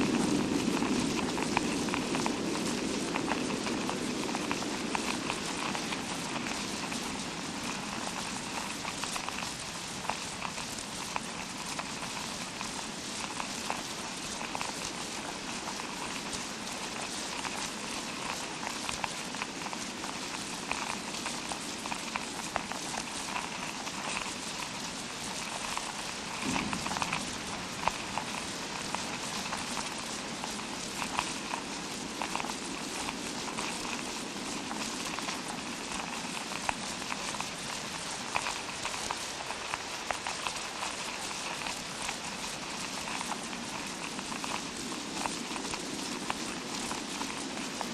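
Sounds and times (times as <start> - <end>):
fake rain crackling patter: 0.0 - 47.9.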